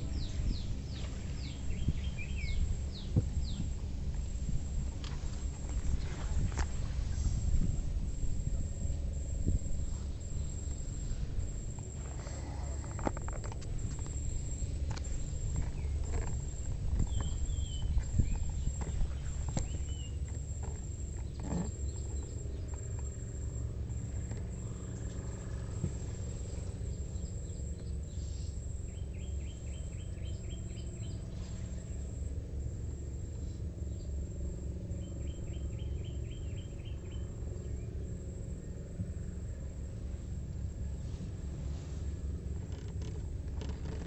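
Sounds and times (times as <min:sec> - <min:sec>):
boat engine low hum: 0:00.0 - 0:44.0.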